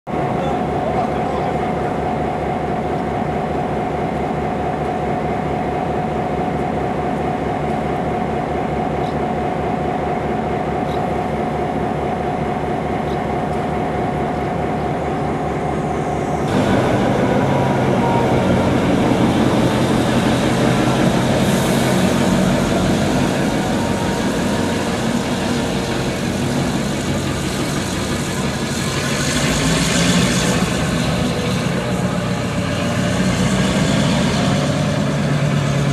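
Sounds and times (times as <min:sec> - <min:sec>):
diesel locomotive running: 0:00.1 - 0:35.9.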